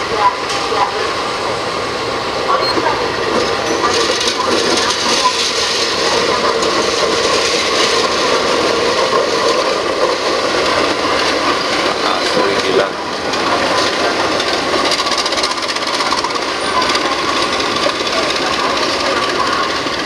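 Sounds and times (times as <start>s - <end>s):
diesel locomotive running: 0.0s - 20.0s
train wheels rolling over rails: 0.0s - 20.0s.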